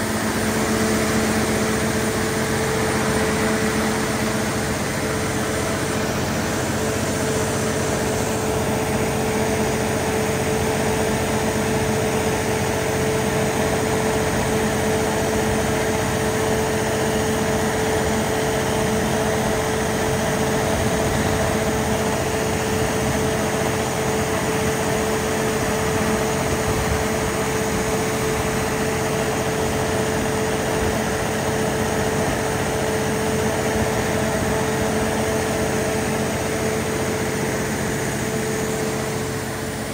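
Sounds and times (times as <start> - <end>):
diesel generator engine droning: 0.0 - 39.9.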